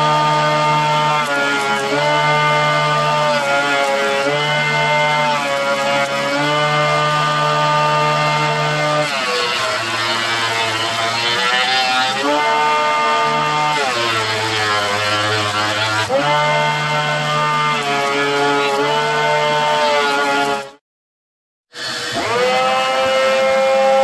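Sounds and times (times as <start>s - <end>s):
cutterhead planing wood hiss: 0.0s - 20.7s, 21.8s - 24.0s
jointer motor whine: 0.0s - 20.8s, 21.8s - 24.0s.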